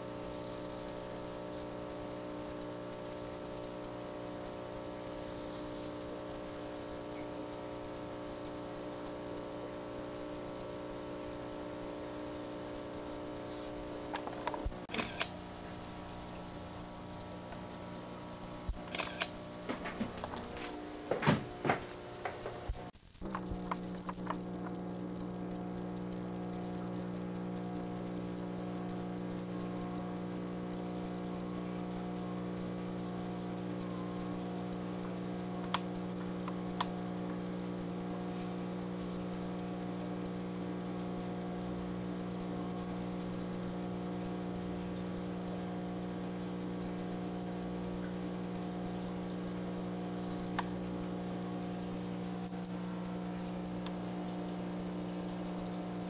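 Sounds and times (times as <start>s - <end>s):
steady multi-tone hum: 0.0s - 56.0s.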